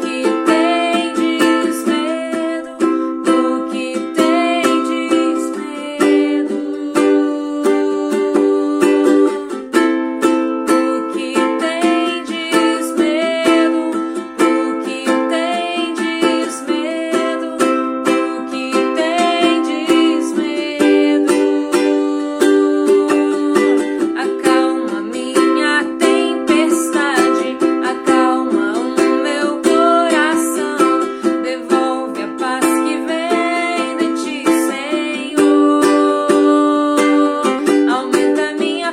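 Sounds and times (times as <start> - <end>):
ukulele melody: 0.0 - 38.9.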